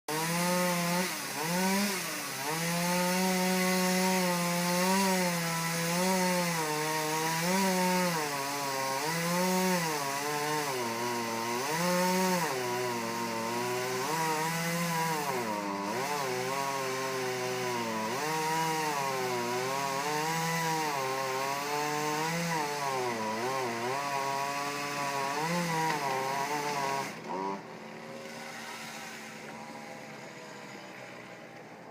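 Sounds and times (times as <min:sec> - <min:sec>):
chainsaw cutting wood: 0:00.1 - 0:31.9.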